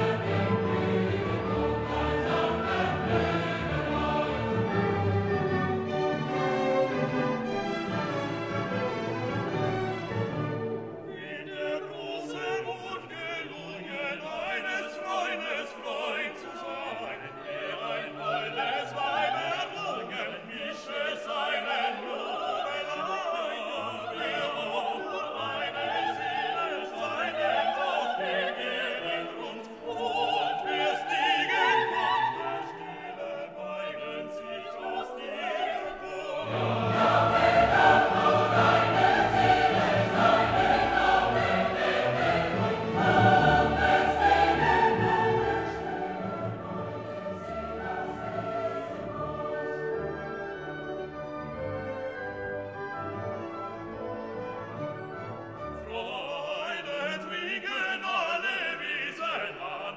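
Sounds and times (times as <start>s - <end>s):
classical singing with orchestra: 0.0s - 59.9s.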